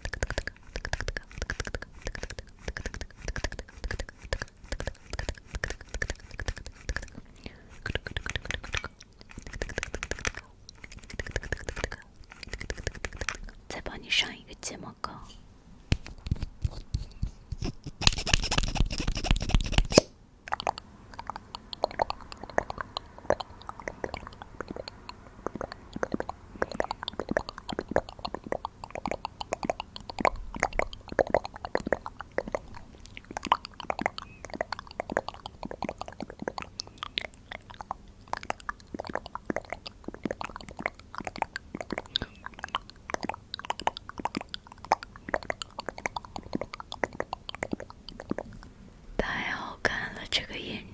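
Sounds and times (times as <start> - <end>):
close-up crackling and tapping: 0.0 - 13.6, 15.9 - 48.7.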